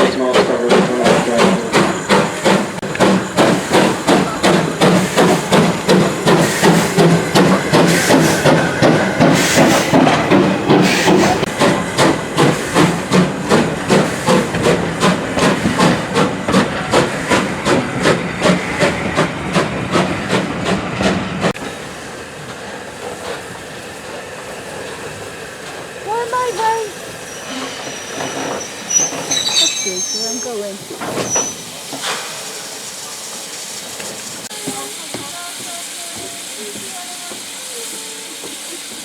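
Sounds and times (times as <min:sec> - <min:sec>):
steam hissing: 0:00.0 - 0:39.0
steam locomotive exhaust chuffs: 0:00.0 - 0:39.0.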